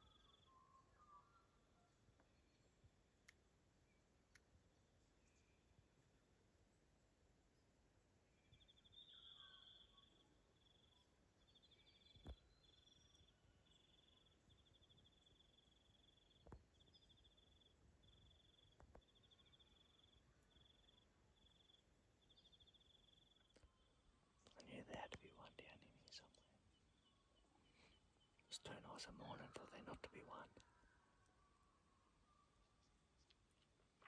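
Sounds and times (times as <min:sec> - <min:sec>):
faint bird chirps: 0:00.0 - 0:06.3, 0:08.1 - 0:34.0.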